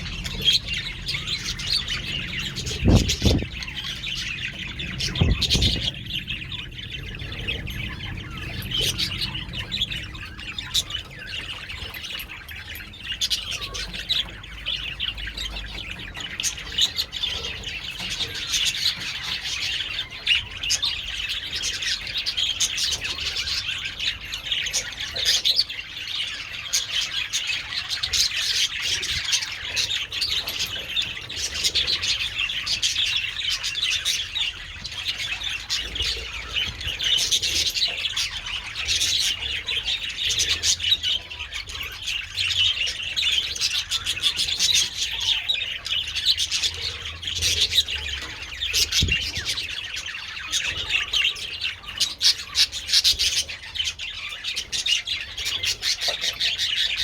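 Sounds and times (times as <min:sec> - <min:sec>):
budgerigars chirping and warbling: 0:00.0 - 0:57.0.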